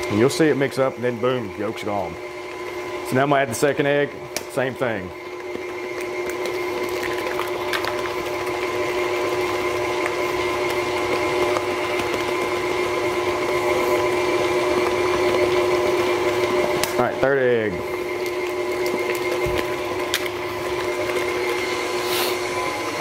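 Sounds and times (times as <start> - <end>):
stand mixer motor whine: 0.0 - 23.0.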